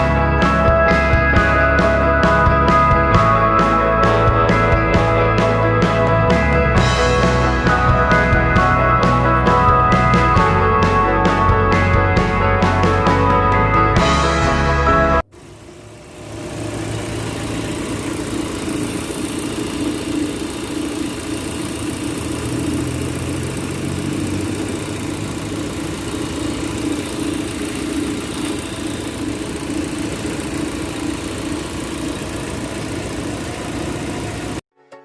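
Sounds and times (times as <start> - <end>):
car engine idling: 0.0 - 34.6.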